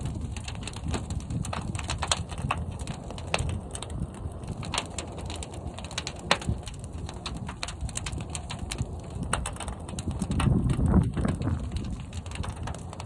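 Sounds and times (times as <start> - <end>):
fire crackling and popping: 0.0 - 13.0
kiln fire rumbling: 0.0 - 13.0.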